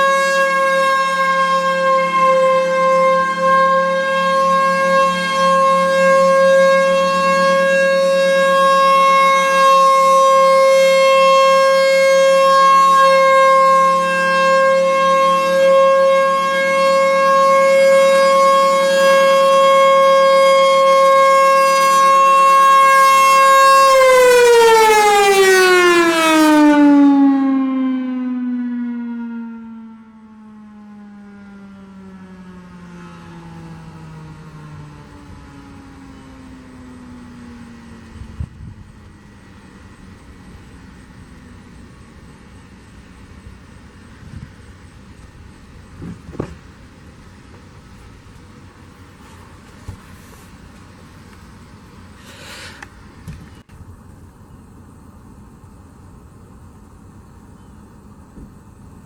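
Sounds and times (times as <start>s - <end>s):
warning siren winding down: 0.0s - 49.5s.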